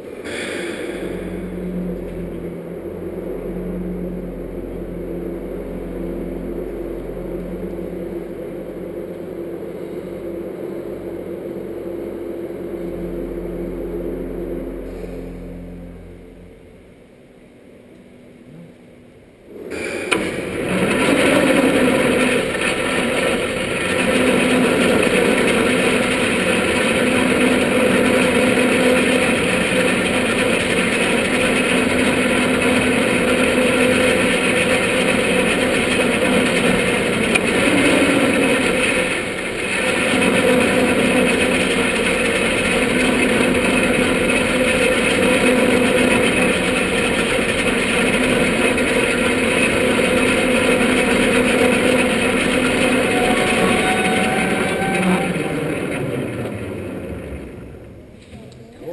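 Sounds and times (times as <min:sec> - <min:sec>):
dome shutter motor droning: 0:00.0 - 0:18.8, 0:19.5 - 0:58.5.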